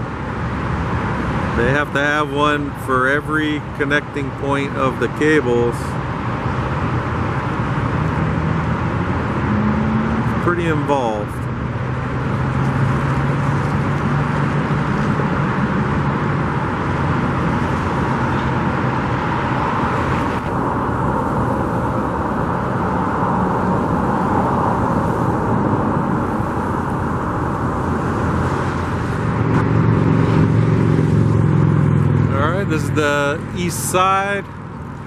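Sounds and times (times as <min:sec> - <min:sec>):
car engine hum: 0:00.0 - 0:35.0
road noise: 0:00.0 - 0:35.0.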